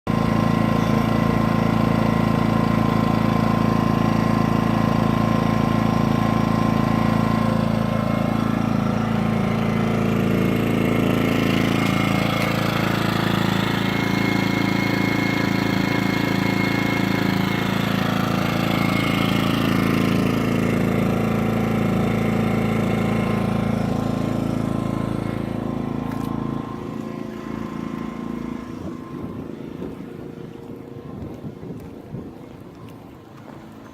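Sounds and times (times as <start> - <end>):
generator engine running: 0.1 - 33.9.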